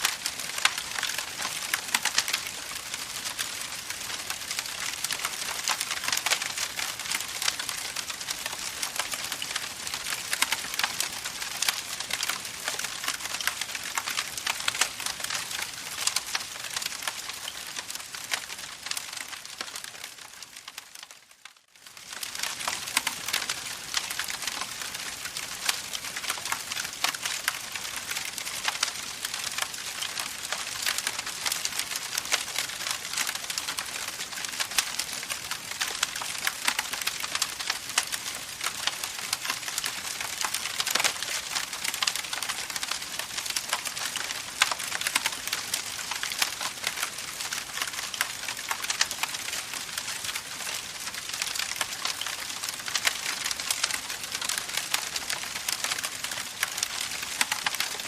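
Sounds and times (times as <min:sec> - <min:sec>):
campfire crackling: 0:00.0 - 0:21.1, 0:21.8 - 0:58.0.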